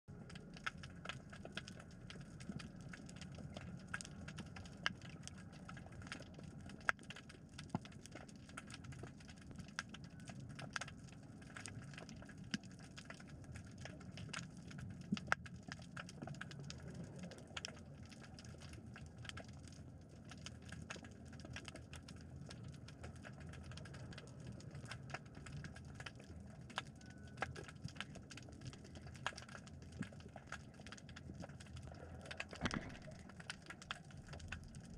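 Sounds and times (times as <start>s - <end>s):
crackle of small clicks: 0.1s - 34.9s.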